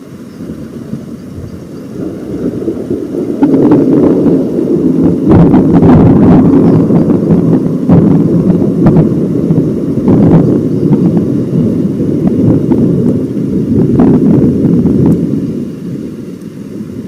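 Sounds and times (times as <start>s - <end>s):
rolling thunder with crackles: 0.0s - 17.0s.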